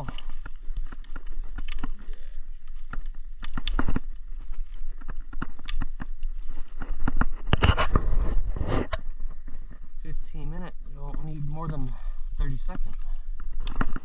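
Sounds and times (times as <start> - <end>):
steady low rumble: 0.0 - 14.0
twigs crackling in fire: 0.0 - 14.0.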